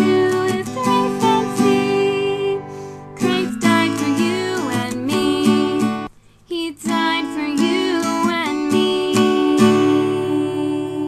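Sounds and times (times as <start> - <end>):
acoustic guitar: 0.0 - 11.0
woman singing: 0.0 - 11.0.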